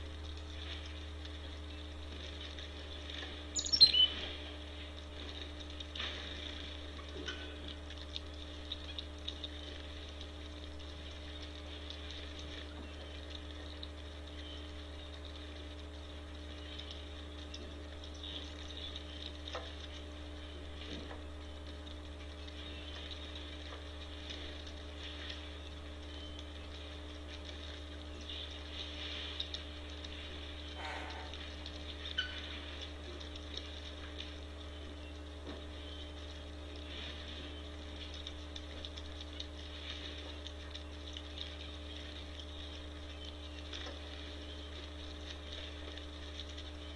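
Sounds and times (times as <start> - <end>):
faint ticks and patters: 0.0 - 46.9
low electrical hum: 0.0 - 46.9.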